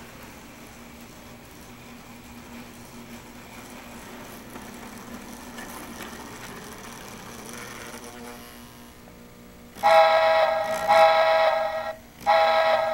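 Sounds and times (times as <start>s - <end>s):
model train wheel rumble: 0.0s - 9.1s, 9.8s - 12.9s
model train motor hum: 0.0s - 12.9s.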